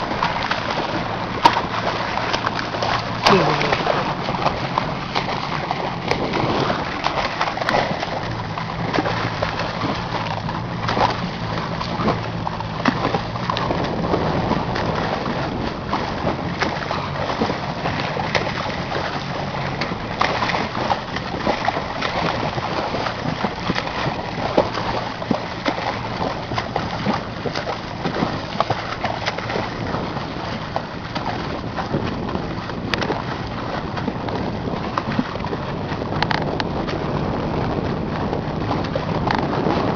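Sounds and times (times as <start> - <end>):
low steady hum: 0.0 - 39.9
sea water splashing: 0.0 - 39.9.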